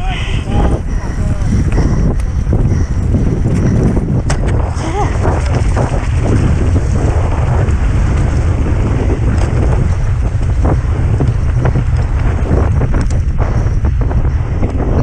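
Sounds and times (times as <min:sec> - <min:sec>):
bike knocking and rattling: 0:00.0 - 0:15.0
wind buffeting microphone: 0:00.0 - 0:15.0.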